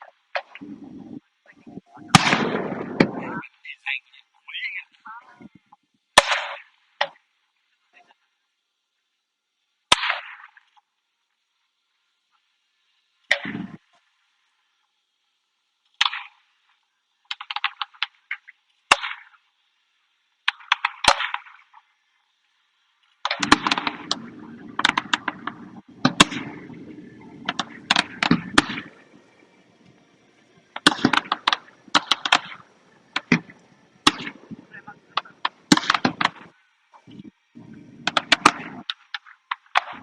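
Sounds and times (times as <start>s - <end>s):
fireworks crackling: 0.0s - 8.4s, 9.7s - 40.0s.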